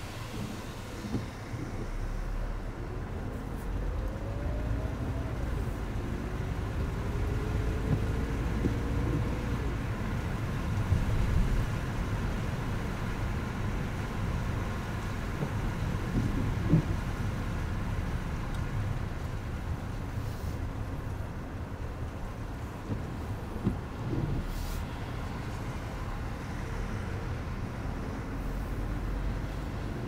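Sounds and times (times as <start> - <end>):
engine and tyre rumble: 0.0 - 30.0.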